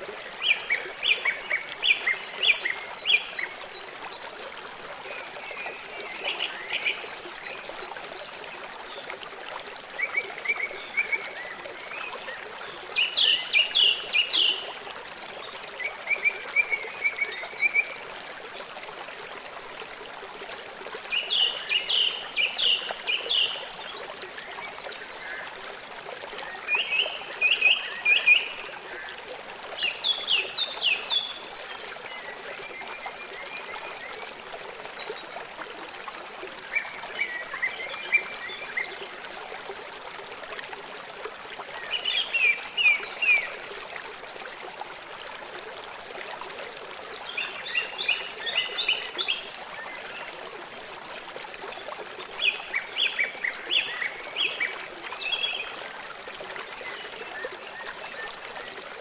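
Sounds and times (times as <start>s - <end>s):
running stream: 0.0s - 59.0s.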